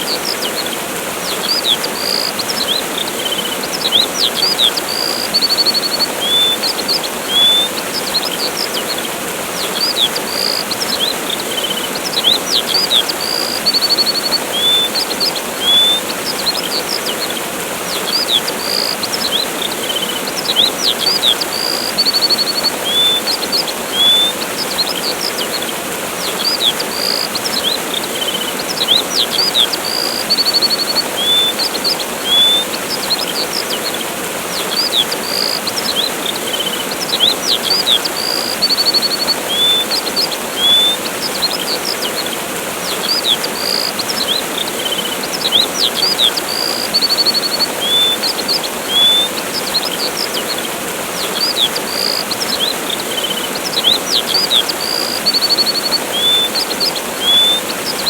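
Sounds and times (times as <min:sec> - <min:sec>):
small birds chirping: 0:00.0 - 0:58.0
waterfall rushing: 0:00.0 - 0:58.0.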